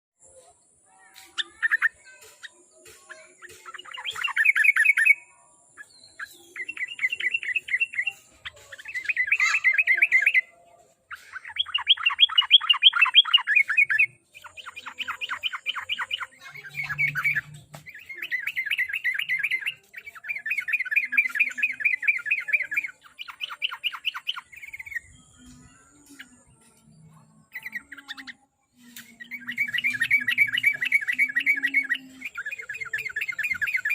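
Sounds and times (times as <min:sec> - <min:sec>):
bird singing bubbling phrases: 0:01.4 - 0:33.9.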